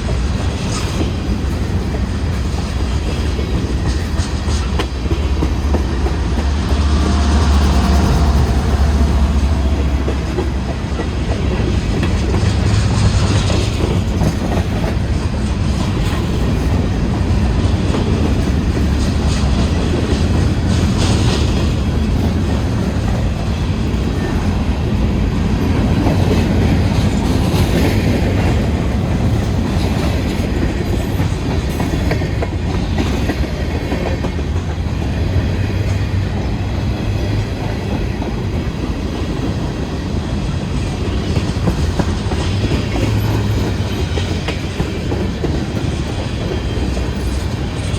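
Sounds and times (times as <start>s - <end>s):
freight train rumbling past: 0.0s - 47.9s.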